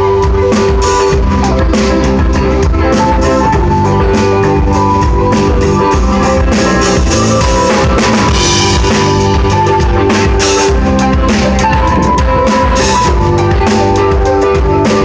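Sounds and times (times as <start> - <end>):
drum kit beat: 0.0 - 15.0
rock band playing loud: 0.0 - 15.0.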